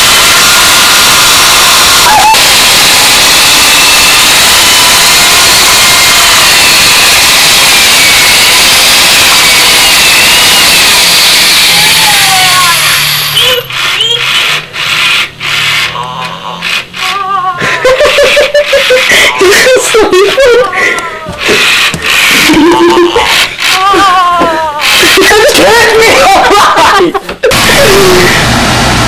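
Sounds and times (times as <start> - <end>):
drill press grinding: 0.0 - 26.6.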